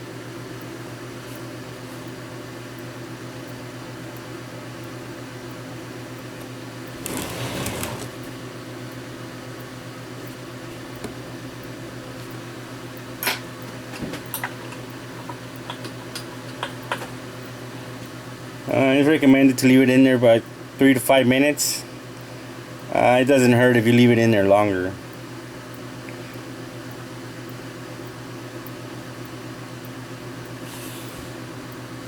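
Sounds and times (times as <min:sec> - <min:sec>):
curing lamp electrical hum: 0:00.0 - 0:32.0.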